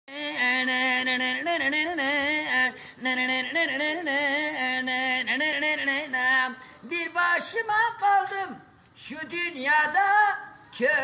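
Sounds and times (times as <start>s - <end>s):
man singing unaccompanied: 0.1s - 11.0s.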